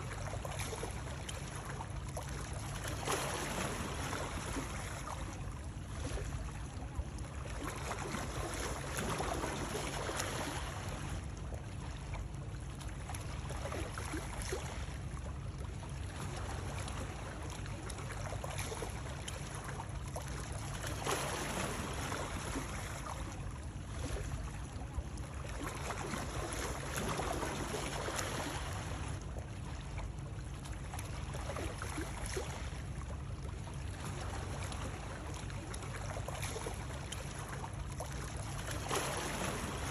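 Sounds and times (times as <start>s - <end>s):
water running and lapping: 0.0s - 39.9s.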